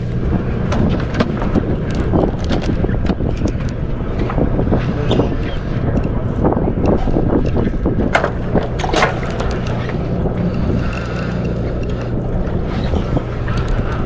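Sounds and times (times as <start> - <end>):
boat engine humming: 0.0 - 14.0
water noise: 0.0 - 14.0
wind noise: 0.0 - 14.0.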